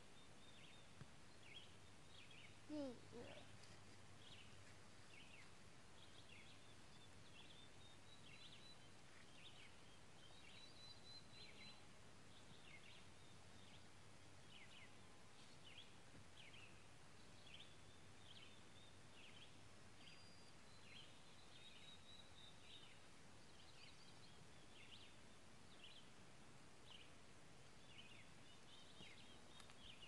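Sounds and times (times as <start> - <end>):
faint birds chirping: 0.0 - 30.0.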